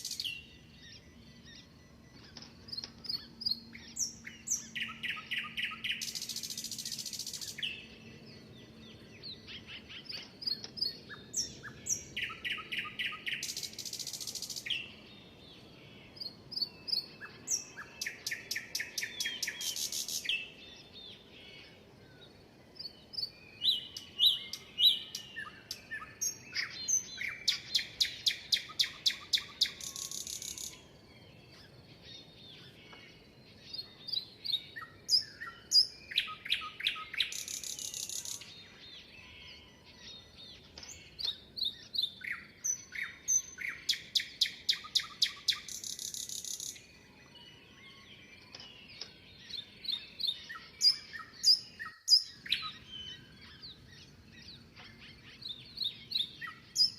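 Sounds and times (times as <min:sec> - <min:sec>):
soft bird chirps: 0:00.0 - 0:56.9
songbird song with buzzy trill: 0:00.0 - 0:56.9.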